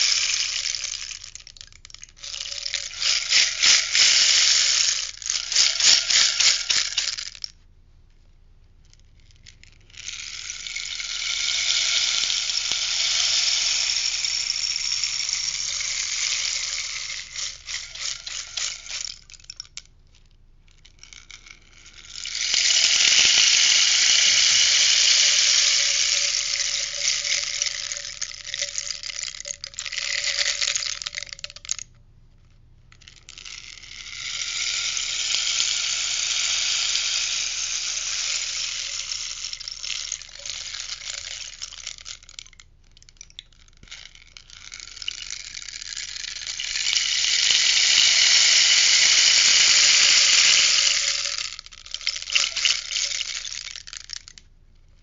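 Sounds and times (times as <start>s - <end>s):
rainstick rustling cascade: 0.0s - 7.6s, 8.8s - 31.9s, 32.9s - 54.5s.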